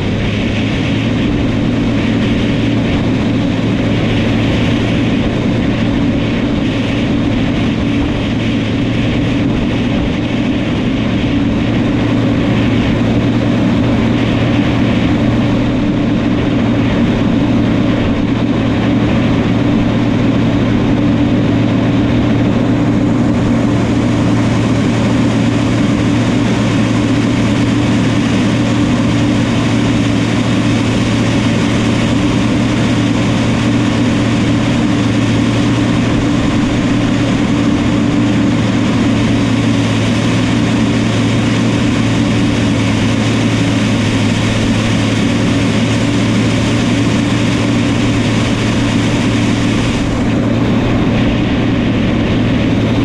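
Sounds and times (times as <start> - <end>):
dozer diesel engine running: 0.0 - 53.0.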